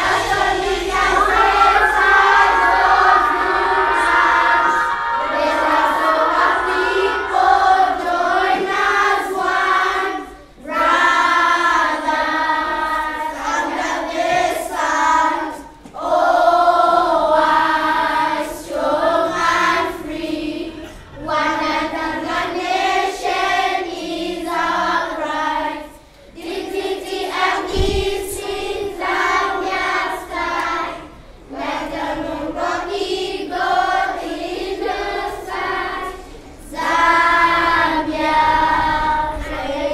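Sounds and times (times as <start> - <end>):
children singing in chorus: 0.0 - 39.9.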